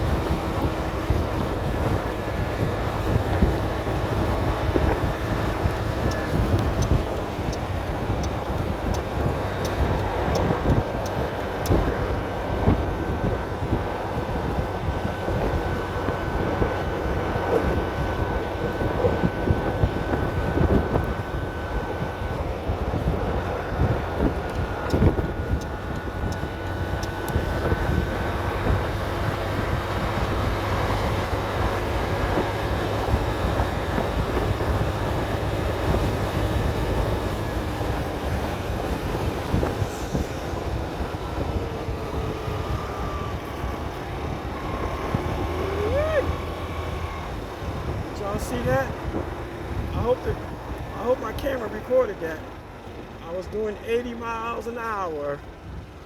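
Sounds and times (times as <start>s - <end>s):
scooter engine drone: 0.0s - 56.0s
thin steady whine: 0.0s - 56.0s
wind rushing over microphone: 0.0s - 56.0s.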